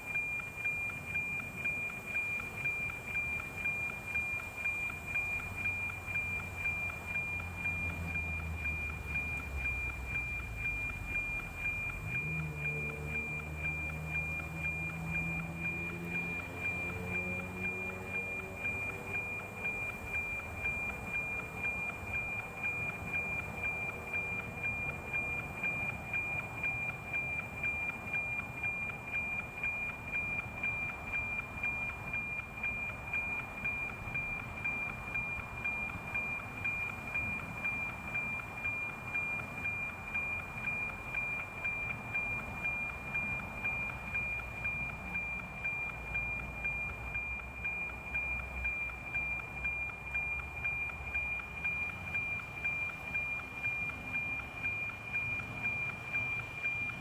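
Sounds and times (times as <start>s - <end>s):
regular tick-tock: 0.0s - 57.0s
steady high whistle: 0.0s - 57.0s.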